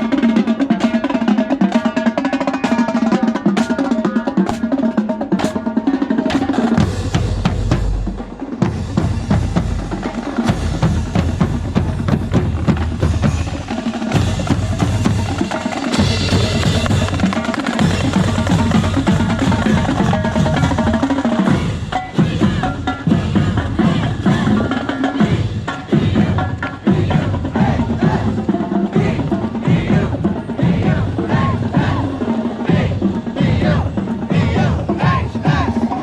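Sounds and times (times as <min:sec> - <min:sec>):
drumline playing snare and bass drums: 0:00.0 - 0:36.0.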